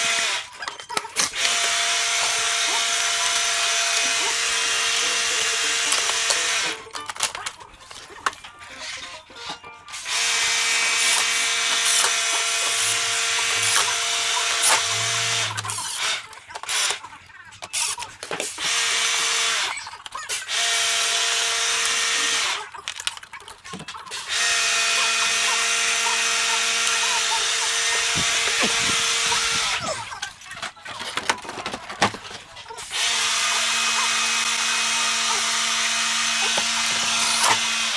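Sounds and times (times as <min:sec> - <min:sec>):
electric drill running: 0:00.0 - 0:08.4, 0:10.0 - 0:17.0, 0:17.7 - 0:22.7, 0:24.2 - 0:30.2, 0:32.8 - 0:37.9.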